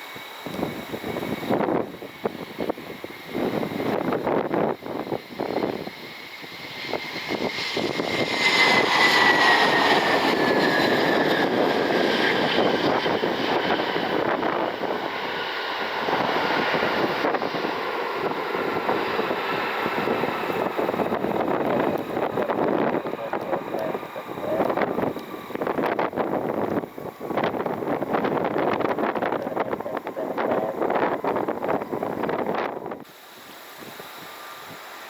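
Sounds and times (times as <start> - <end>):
jet airliner engines roaring: 0.0 - 35.0
wind buffeting microphone: 0.2 - 33.1.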